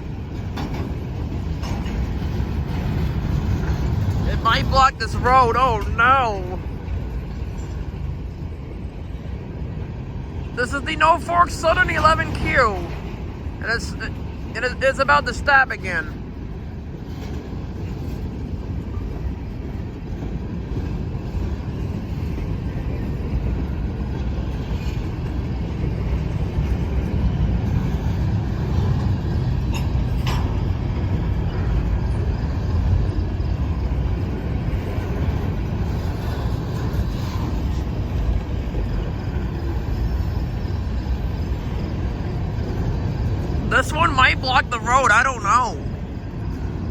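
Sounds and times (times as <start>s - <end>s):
freight cars rolling past: 0.0s - 46.9s.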